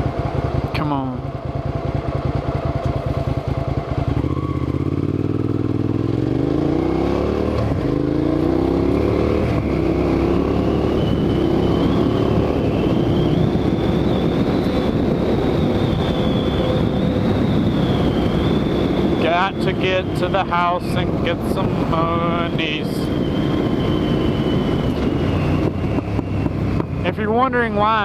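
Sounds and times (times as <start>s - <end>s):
motorcycle engine accelerating: 0.0s - 28.0s
wind rush: 3.1s - 28.0s.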